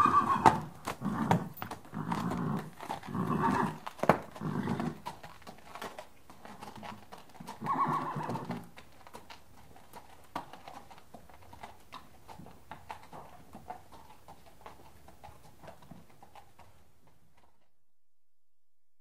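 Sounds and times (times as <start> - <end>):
horse hooves clip-clopping: 0.0 - 17.8.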